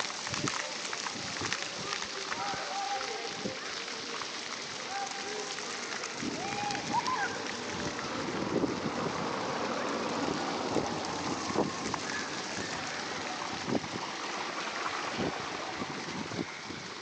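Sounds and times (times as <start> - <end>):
fountain water splashing on paving: 0.0 - 17.0.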